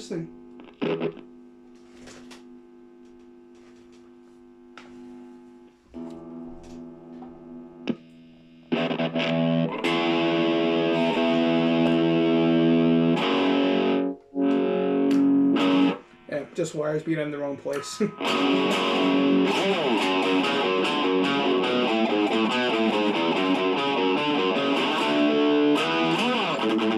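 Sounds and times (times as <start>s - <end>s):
distorted electric guitar chords: 0.0s - 1.6s, 2.2s - 26.9s.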